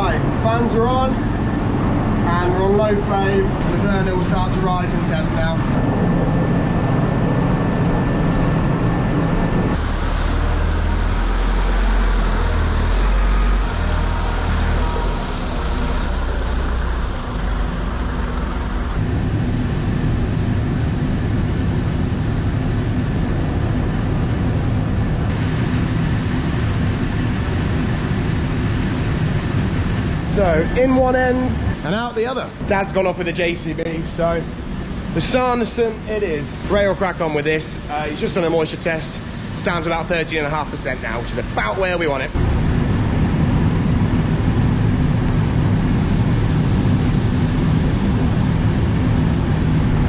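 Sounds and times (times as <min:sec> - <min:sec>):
diesel engine rumbling: 0:00.0 - 0:50.0
grain dryer fans running: 0:00.0 - 0:50.0.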